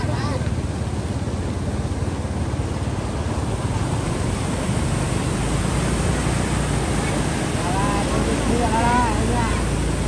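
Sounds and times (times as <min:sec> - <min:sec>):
water rushing through weir: 0:00.0 - 0:10.0.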